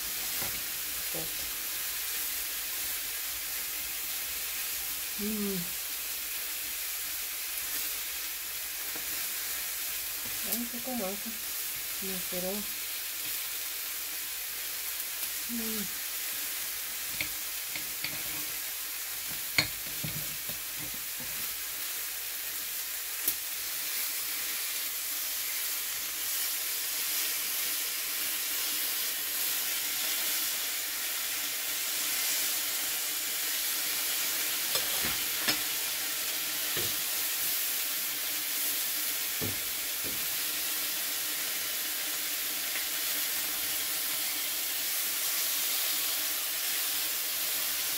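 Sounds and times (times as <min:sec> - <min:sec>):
meat sizzling in a pan: 0:00.0 - 0:47.9.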